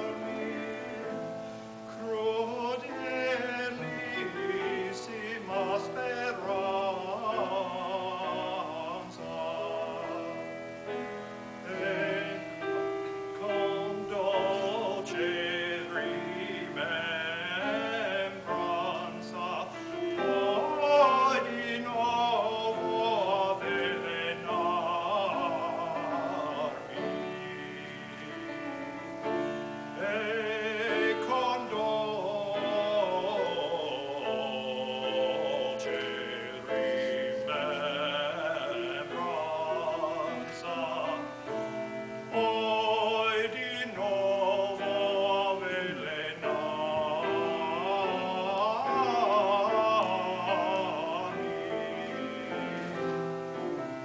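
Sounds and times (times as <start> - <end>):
classical voice singing aria: 0.0 - 54.0.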